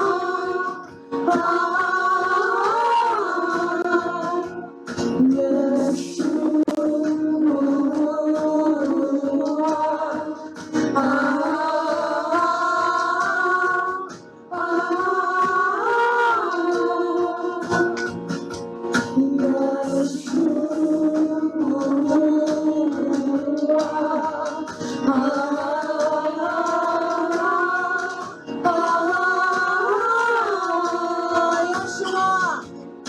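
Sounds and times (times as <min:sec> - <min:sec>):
worship music: 0:00.0 - 0:33.0.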